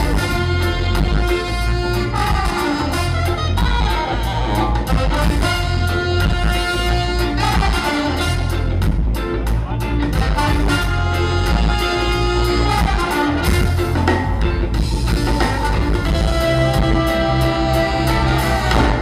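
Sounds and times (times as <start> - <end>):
live ska band playing: 0.0 - 19.0.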